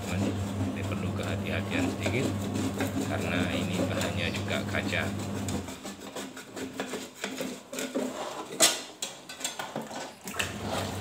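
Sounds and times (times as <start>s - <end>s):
putty knife scraping glass: 0.0s - 11.0s.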